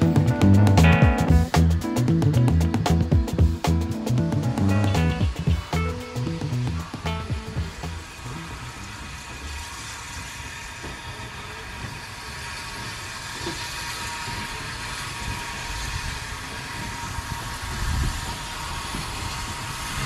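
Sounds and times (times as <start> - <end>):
locomotive rumble: 0.0 - 20.0
steam hissing: 1.5 - 20.0.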